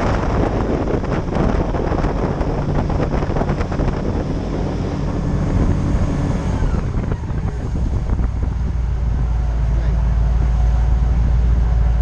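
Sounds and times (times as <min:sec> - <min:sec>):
airboat engine and propeller: 0:00.0 - 0:12.0
wind buffeting microphone: 0:00.0 - 0:12.0.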